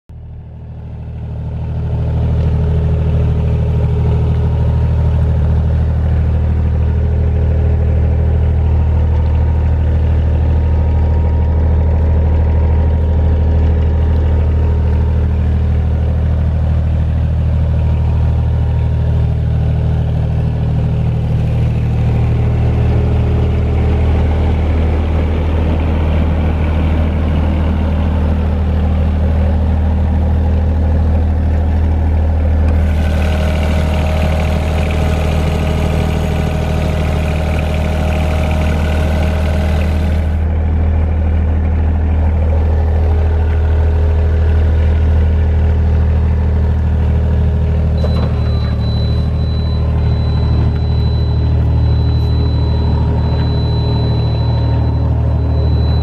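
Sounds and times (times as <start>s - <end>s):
diesel generator engine running: 0.1s - 56.0s.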